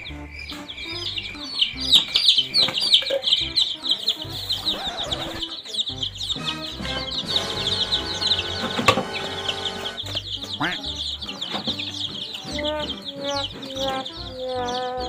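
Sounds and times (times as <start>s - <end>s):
background music: 0.0s - 15.0s
chicks peeping: 0.0s - 15.0s.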